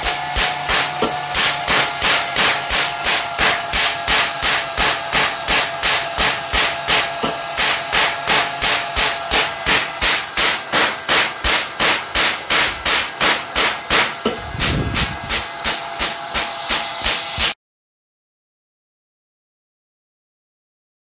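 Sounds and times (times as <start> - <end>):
pulse jet sharp bangs: 0.0 - 17.6.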